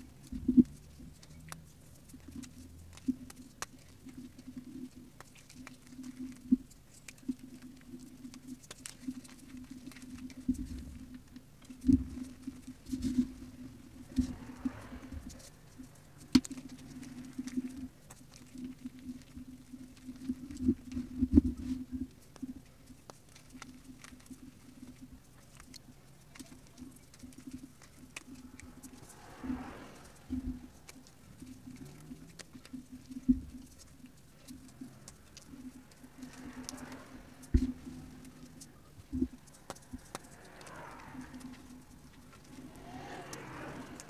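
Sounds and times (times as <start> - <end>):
chalk crumbling between fingers: 0.0 - 44.0.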